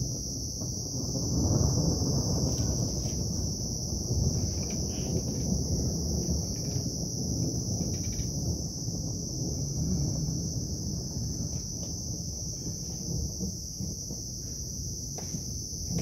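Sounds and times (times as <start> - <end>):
crickets trilling: 0.0 - 16.0
low rumbling haze: 0.0 - 16.0.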